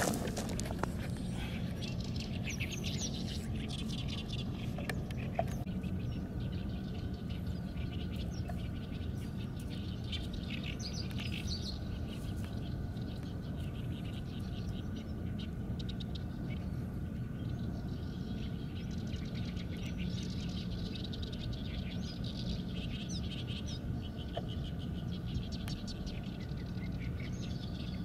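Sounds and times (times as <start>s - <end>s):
small birds twittering: 0.0s - 28.0s
steady low rumble: 0.0s - 28.0s.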